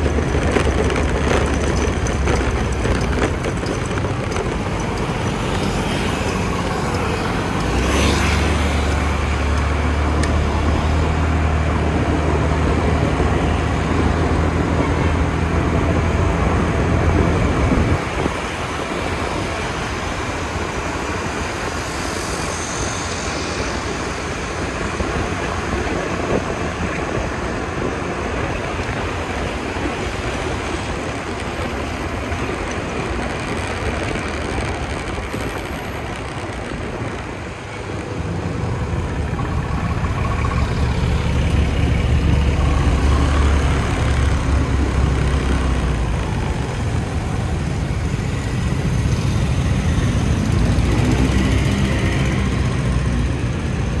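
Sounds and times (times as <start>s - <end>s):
low engine drone: 0.0s - 26.4s, 27.7s - 54.0s
road traffic noise: 0.0s - 54.0s.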